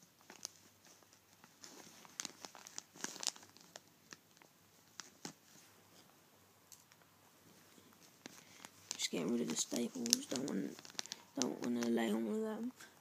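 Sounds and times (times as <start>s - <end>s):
plastic bag crinkling: 0.0s - 5.6s, 7.6s - 12.7s.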